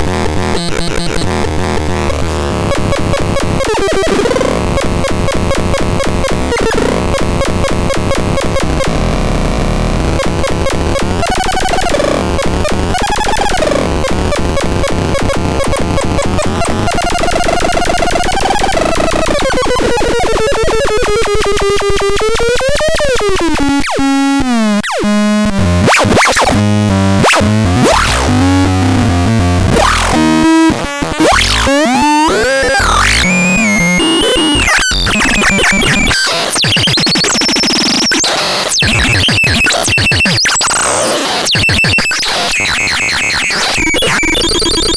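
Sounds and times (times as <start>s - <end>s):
synthesizer noisy electronic sounds: 0.0s - 44.9s.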